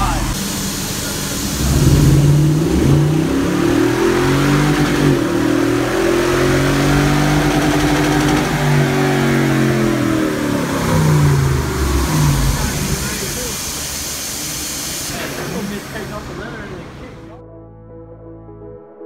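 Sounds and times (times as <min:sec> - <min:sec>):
truck engine revving: 0:00.0 - 0:17.4.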